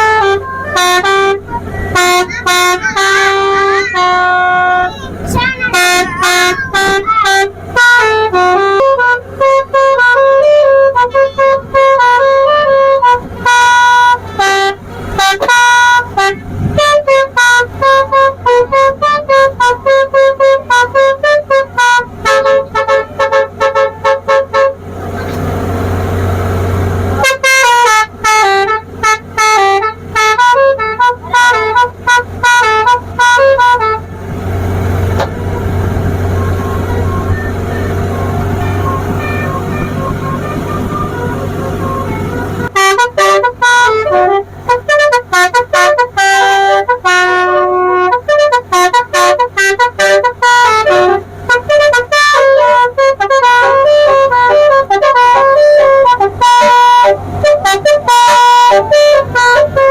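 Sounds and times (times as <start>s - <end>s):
musical horn playing tune: 0.0s - 25.7s, 27.1s - 59.9s.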